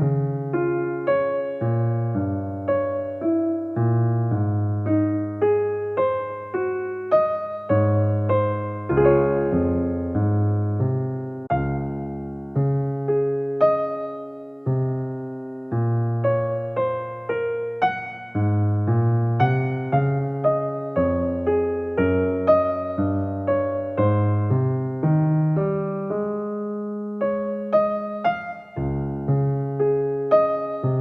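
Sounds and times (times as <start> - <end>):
soft piano music: 0.0 - 31.0.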